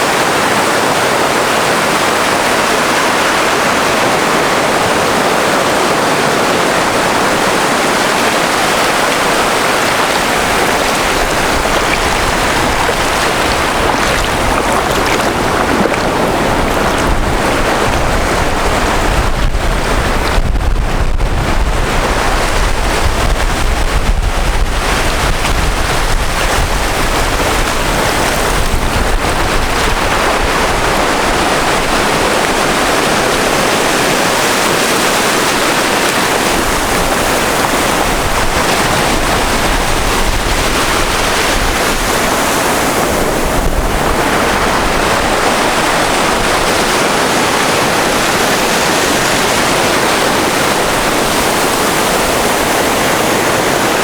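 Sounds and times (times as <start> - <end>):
sea surf washing in: 0.0 - 54.0
wind buffeting microphone: 0.0 - 54.0.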